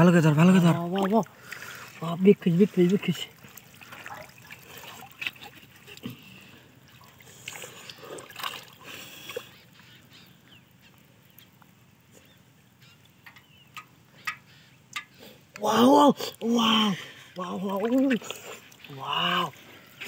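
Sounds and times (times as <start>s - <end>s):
water splashing and sloshing: 0.0s - 15.6s, 17.2s - 20.0s
water dripping: 0.0s - 15.7s, 17.4s - 20.0s.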